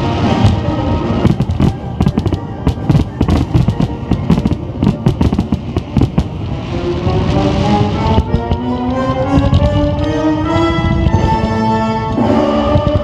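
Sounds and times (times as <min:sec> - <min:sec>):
fireworks bangs and crackles: 0:00.0 - 0:10.2, 0:12.7 - 0:13.0
music playing: 0:00.0 - 0:13.0.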